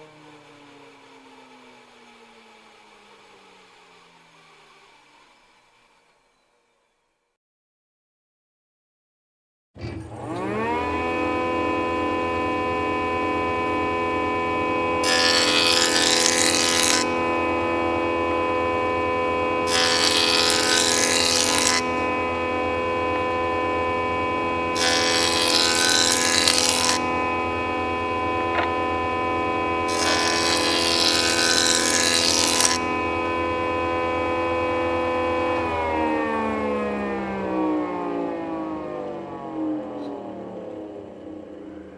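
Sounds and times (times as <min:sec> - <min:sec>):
jointer motor whine: 0:00.0 - 0:06.6, 0:09.8 - 0:41.9.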